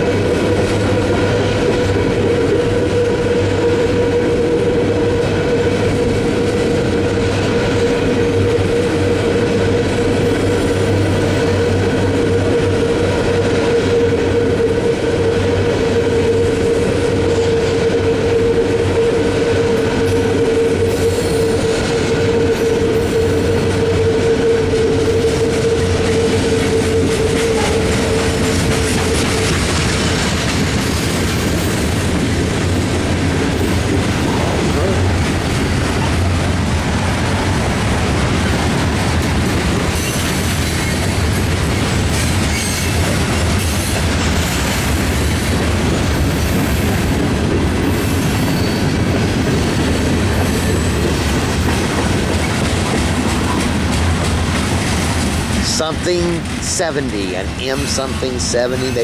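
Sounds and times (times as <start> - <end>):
train wheels rumbling and clacking: 0.0 - 59.0.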